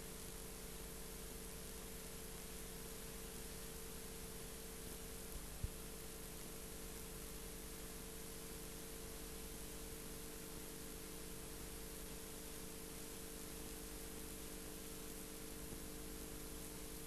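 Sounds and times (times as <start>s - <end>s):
faint hum: 0.0s - 17.0s
steady hiss: 0.0s - 17.0s.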